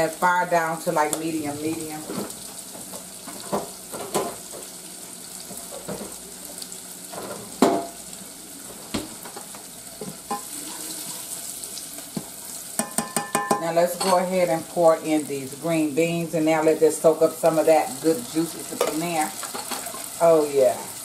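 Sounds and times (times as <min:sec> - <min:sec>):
food sizzling in a saucepan: 0:00.0 - 0:21.0.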